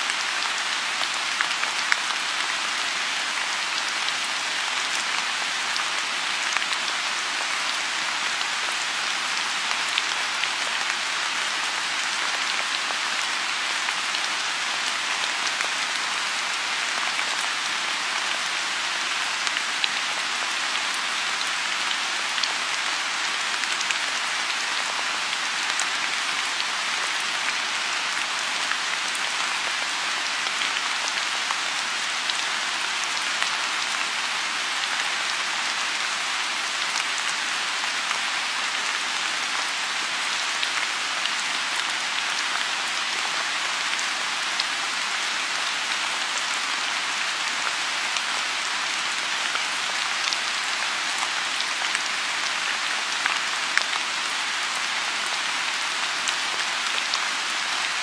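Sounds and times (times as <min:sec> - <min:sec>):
rain falling on a pond: 0:00.0 - 0:58.0.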